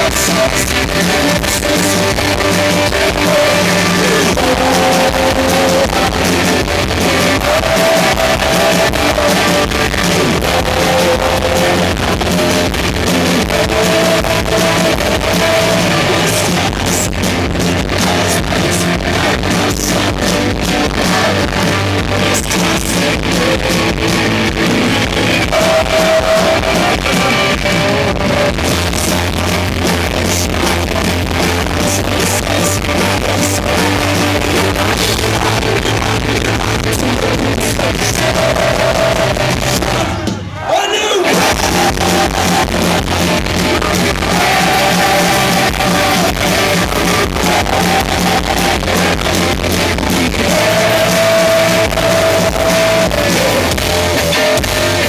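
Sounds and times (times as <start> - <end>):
drums: 0.0 - 55.0
electric guitars: 0.0 - 55.0.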